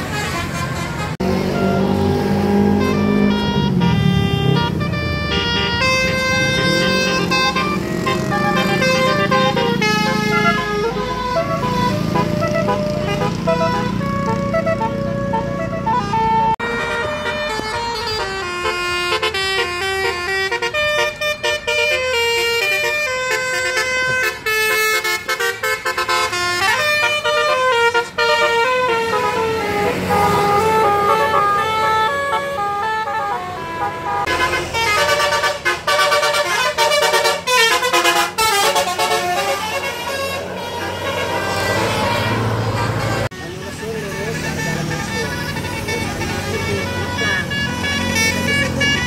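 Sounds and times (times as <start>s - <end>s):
multi-tone bus horn melodies: 0.0s - 49.0s
vehicle noise: 0.0s - 49.0s.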